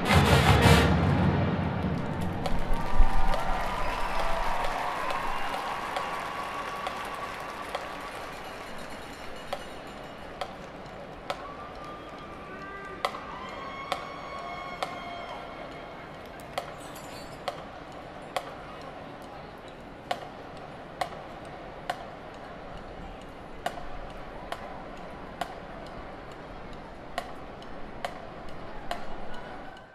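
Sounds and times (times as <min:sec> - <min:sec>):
low crowd murmur: 0:00.0 - 0:29.9.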